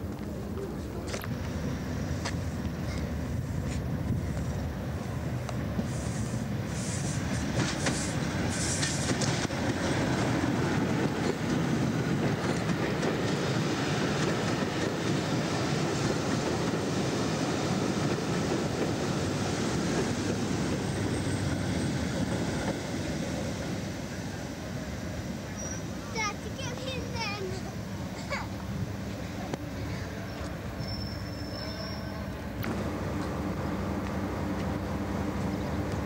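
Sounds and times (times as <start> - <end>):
train passing close by: 0.0 - 36.0.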